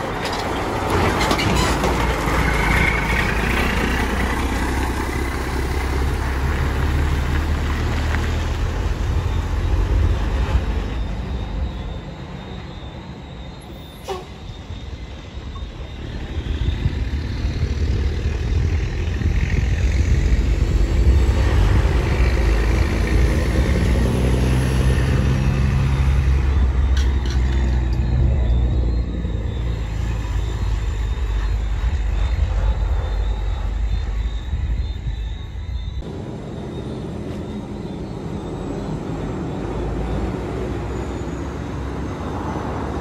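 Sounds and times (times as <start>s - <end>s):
diesel truck engine under load: 0.0s - 43.0s.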